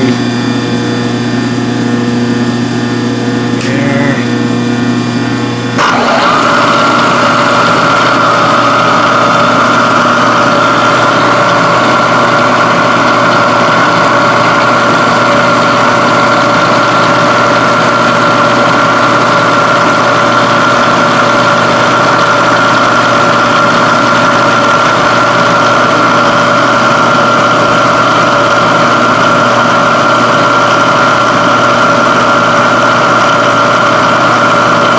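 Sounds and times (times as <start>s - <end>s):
milling machine whining: 0.0s - 34.9s.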